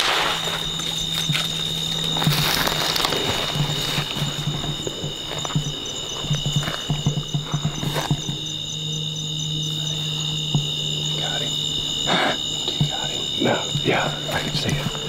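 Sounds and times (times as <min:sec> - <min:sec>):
fast pulsing insect trill: 0:00.0 - 0:15.0
frogs croaking: 0:00.0 - 0:15.0
insects trilling: 0:00.0 - 0:15.0.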